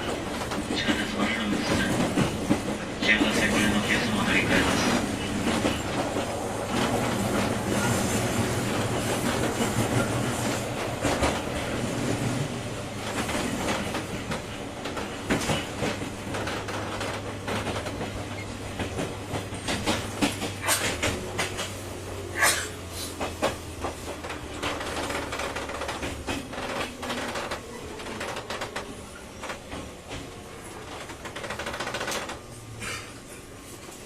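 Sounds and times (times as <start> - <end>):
wheels clacking over rail joints: 0.0 - 32.5
train motors and wheels rumbling: 0.0 - 34.0.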